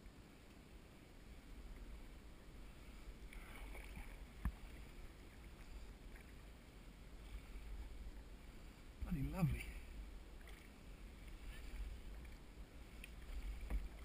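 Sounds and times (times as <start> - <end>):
canoe paddles in water: 0.0 - 14.0.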